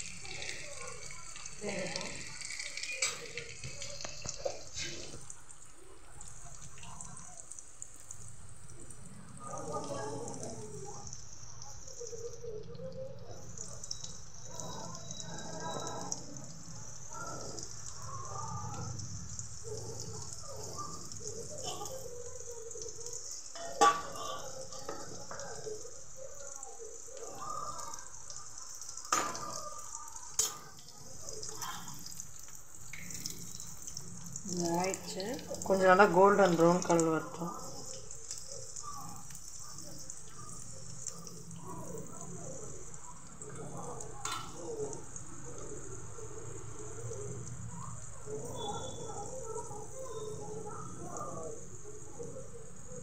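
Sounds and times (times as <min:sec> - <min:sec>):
food deep-frying in hot oil: 0:00.0 - 0:53.0.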